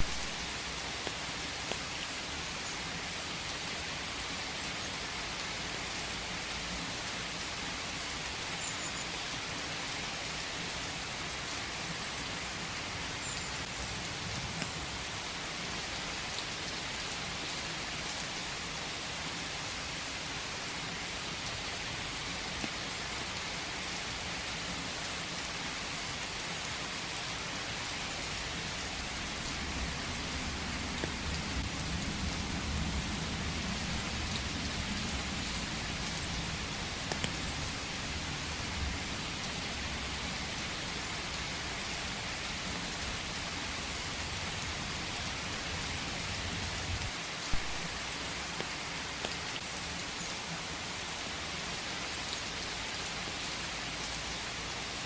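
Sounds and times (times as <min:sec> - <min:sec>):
rain falling in a forest: 0:00.0 - 0:55.0.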